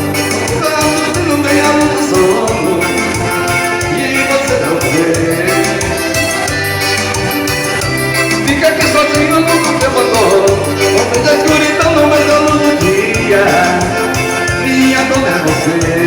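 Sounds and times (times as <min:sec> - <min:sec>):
live dance band playing: 0:00.0 - 0:16.0.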